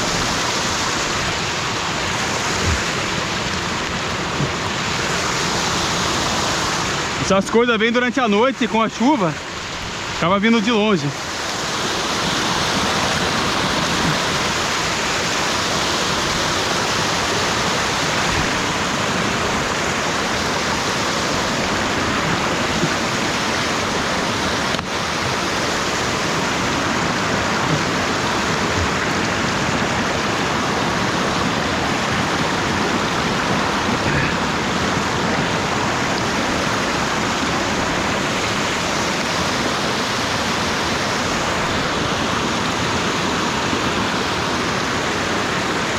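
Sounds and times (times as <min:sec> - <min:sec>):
creek rushing over rocks: 0:00.0 - 0:45.9.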